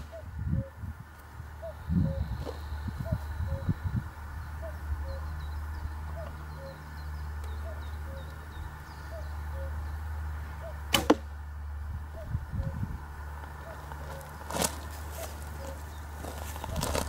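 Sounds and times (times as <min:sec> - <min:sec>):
steady low rumble: 0:00.0 - 0:17.0
bird chirping: 0:01.4 - 0:10.9, 0:12.1 - 0:12.9, 0:13.5 - 0:17.0.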